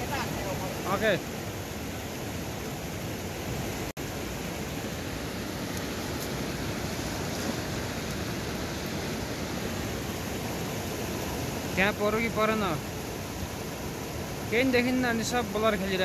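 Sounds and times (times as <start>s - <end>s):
river flowing over rocks: 0.0s - 16.0s.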